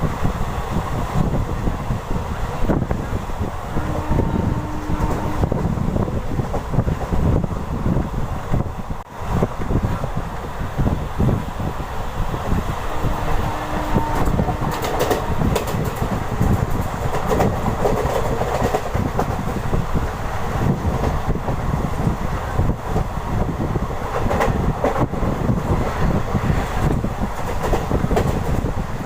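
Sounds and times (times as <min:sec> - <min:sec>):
train coaches rumbling: 0:00.0 - 0:29.0.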